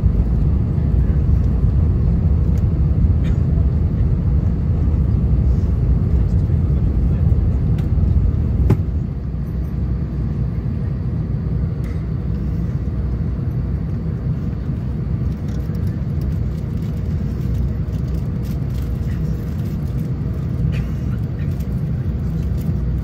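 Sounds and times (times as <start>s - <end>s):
airliner engine rumble: 0.0s - 23.0s.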